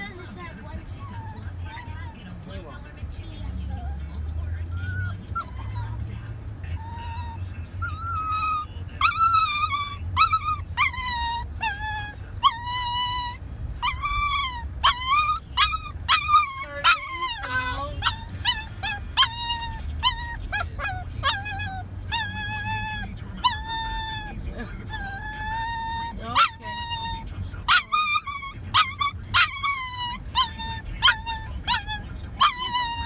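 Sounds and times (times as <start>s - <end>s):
low car rumble: 0.0s - 33.0s
puppy whining and yelping: 0.8s - 2.2s, 3.6s - 6.1s, 6.7s - 33.0s.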